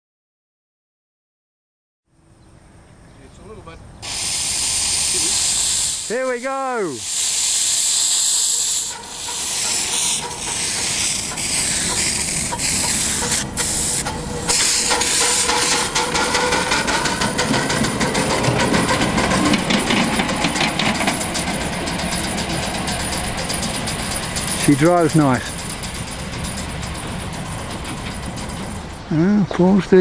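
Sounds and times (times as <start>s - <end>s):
steam hissing: 4.0s - 29.4s
steam locomotive exhaust beats: 4.0s - 30.0s.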